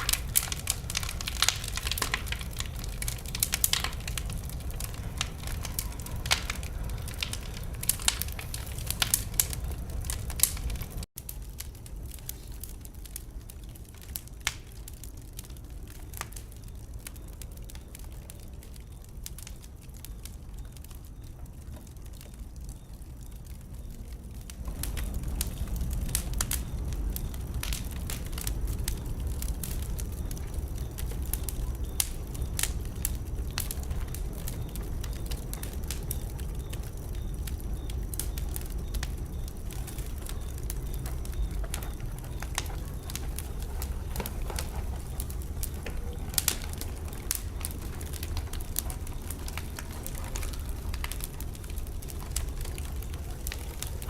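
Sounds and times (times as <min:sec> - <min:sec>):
wood fire crackling in fireplace: 0:00.0 - 0:54.0.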